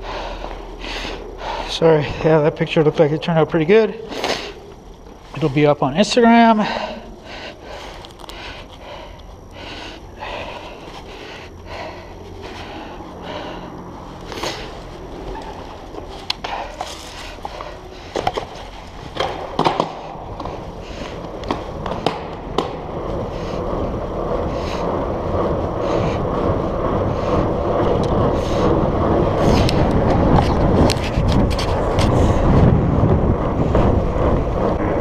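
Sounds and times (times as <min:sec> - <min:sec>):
bike tyres rolling on pavement: 0:00.0 - 0:35.0.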